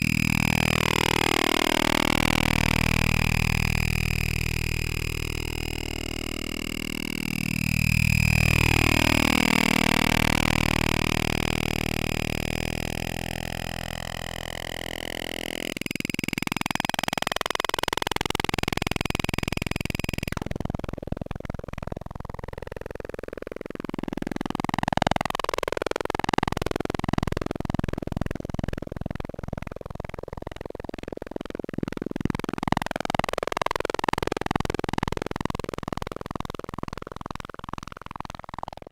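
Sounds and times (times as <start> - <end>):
modular synthesizer drone: 0.0 - 33.2.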